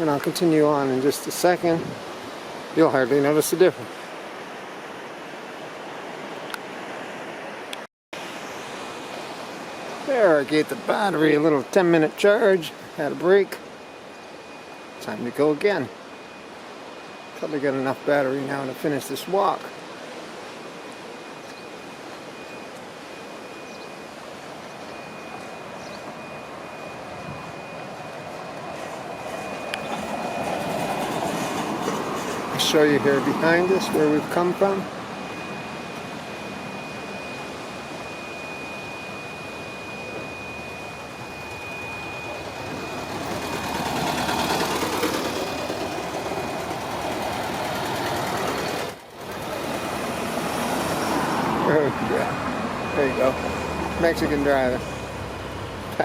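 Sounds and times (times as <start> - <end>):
faint high steady whine: 0.0 - 56.0
outdoor background rush: 0.0 - 56.0
traffic passing on a road: 0.0 - 56.0
faint steady high tone: 8.4 - 56.0.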